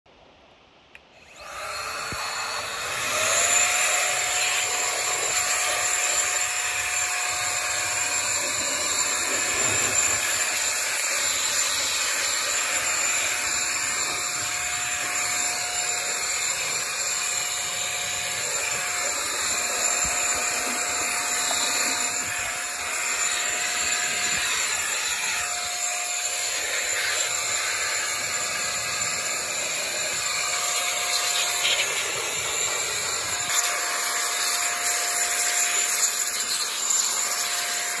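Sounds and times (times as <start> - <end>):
electric air duster running: 1.1 - 38.0.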